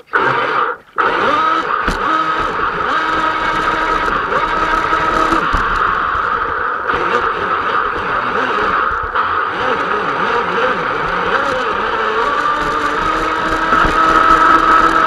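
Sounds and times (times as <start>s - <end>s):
model boat motor whine: 0.0s - 15.0s.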